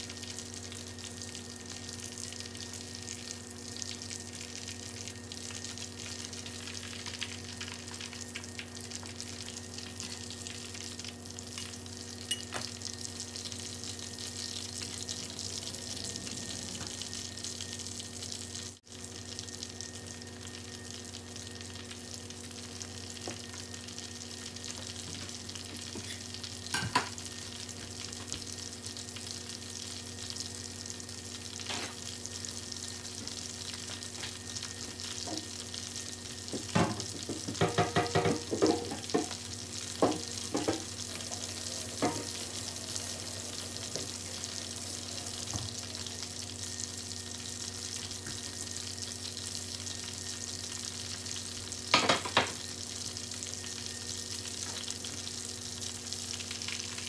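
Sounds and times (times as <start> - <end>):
meat sizzling in bubbling oil: 0.0 - 57.0
oil popping and crackling: 0.0 - 57.0.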